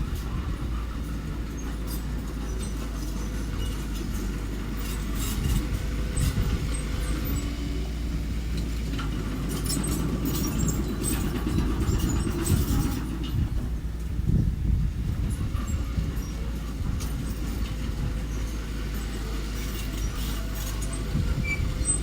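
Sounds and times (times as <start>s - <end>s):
earthmoving machine engine running: 0.0s - 22.0s.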